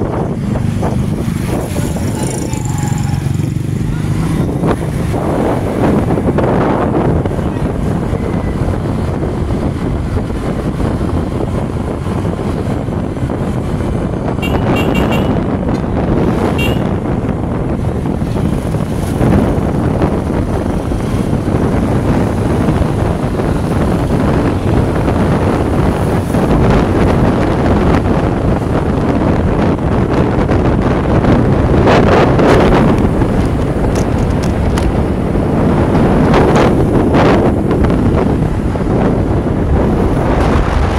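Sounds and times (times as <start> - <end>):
tyre noise on road: 0.0 - 40.9
vehicle engine: 0.0 - 40.9
wind rush over microphone: 0.0 - 40.9.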